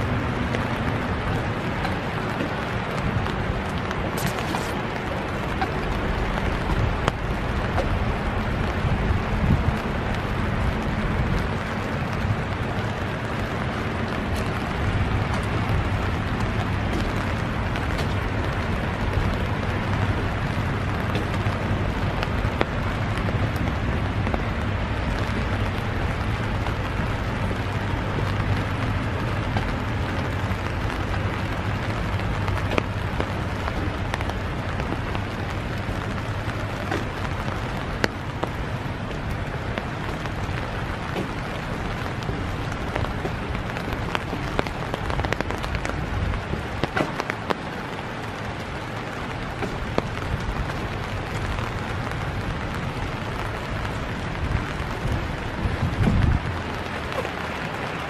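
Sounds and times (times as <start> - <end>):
sharp taps of raindrops: 0.0 - 58.0
steady rain hiss: 0.0 - 58.0.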